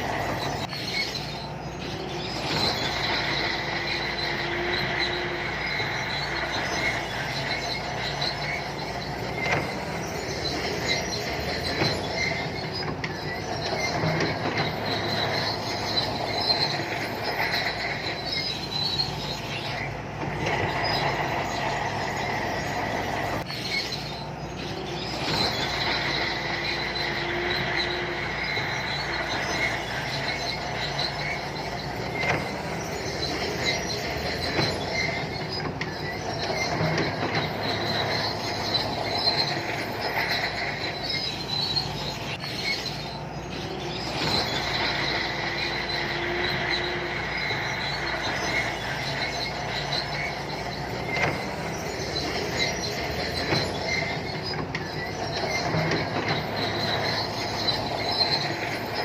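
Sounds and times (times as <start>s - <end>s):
bulldozer diesel engine running: 0.0s - 59.0s
steel tracks squealing and clanking: 0.0s - 59.0s.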